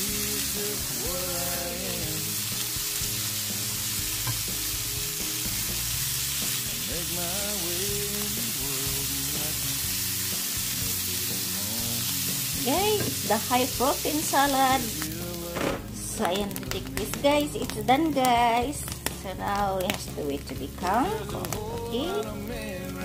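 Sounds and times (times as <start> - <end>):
background music: 0.0 - 23.0
chickpeas sizzling in oil: 0.0 - 23.0.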